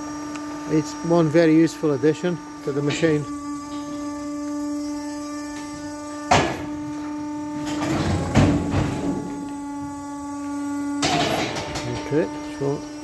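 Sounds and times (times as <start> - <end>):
sawmill motor humming: 0.0 - 13.0.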